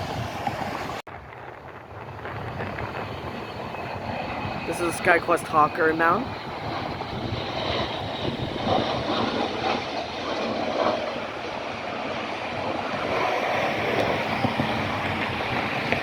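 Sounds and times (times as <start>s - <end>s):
jet plane rushing noise: 0.0s - 16.0s.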